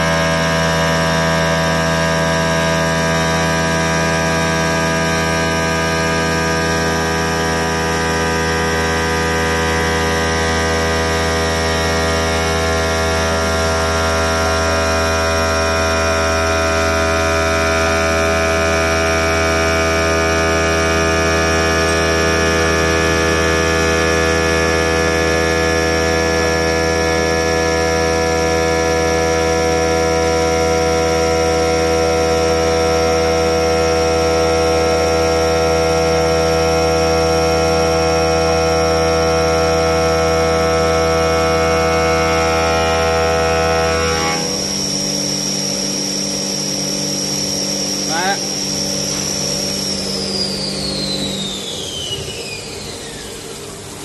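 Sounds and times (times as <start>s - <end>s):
stone cutting machine grinding: 0.0s - 52.1s.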